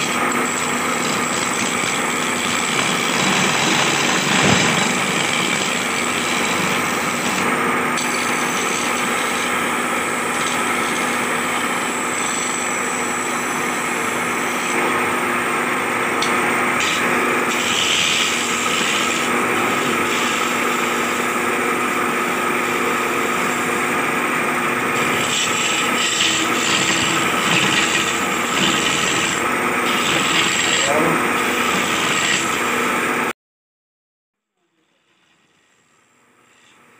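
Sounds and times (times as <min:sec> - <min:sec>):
chisel cutting spinning wood: 0:00.0 - 0:33.3, 0:34.8 - 0:36.9
lathe motor hum: 0:00.0 - 0:33.3.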